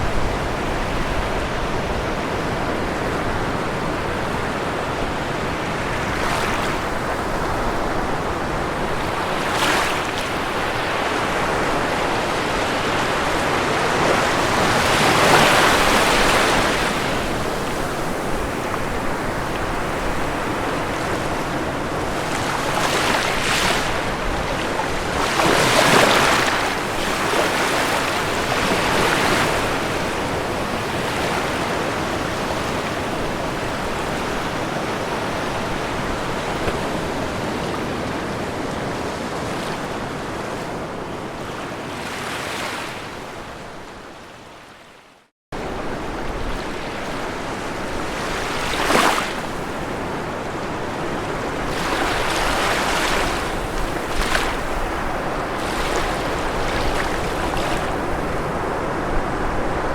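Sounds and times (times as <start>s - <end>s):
waves breaking: 0.0s - 43.1s, 45.6s - 59.9s
ocean surf washing on shore: 0.0s - 44.8s, 45.6s - 59.9s.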